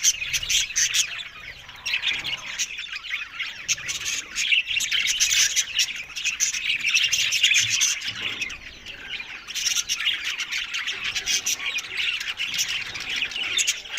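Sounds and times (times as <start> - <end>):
budgerigars chattering: 0.0 - 13.9.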